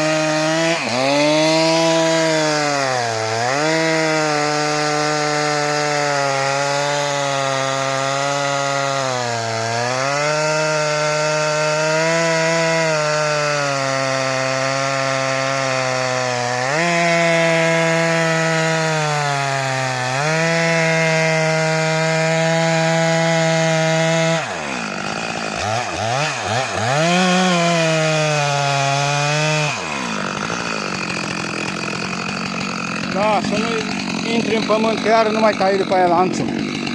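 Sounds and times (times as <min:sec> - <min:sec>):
chainsaw cutting through log: 0:00.0 - 0:36.9.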